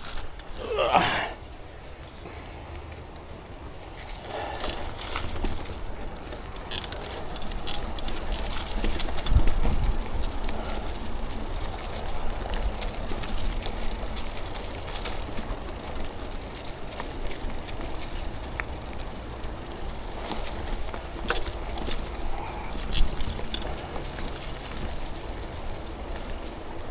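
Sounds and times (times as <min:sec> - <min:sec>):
bike rattling: 0:00.0 - 0:26.9
bike tyres rolling on dirt: 0:00.0 - 0:26.9.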